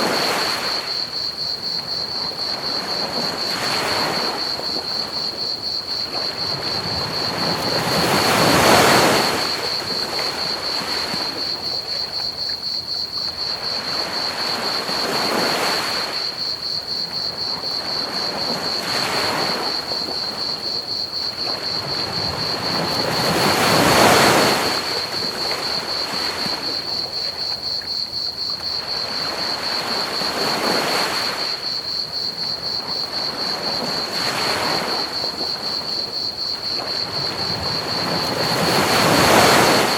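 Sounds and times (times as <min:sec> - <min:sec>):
crickets trilling: 0:00.0 - 0:39.9
ocean waves washing onto beach: 0:00.0 - 0:39.9.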